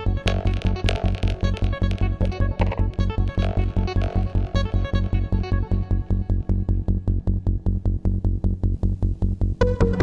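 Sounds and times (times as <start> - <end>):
music with bass drum beat: 0.0 - 10.0.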